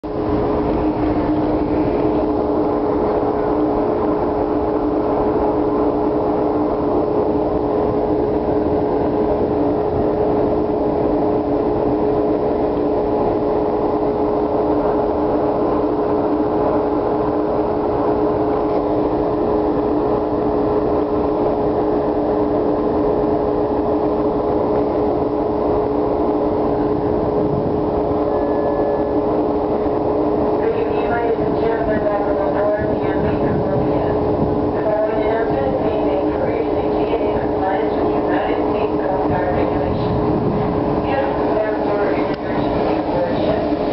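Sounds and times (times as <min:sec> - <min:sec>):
constant rushing noise: 0:00.0 - 0:43.9
ferry engines droning: 0:00.0 - 0:43.9.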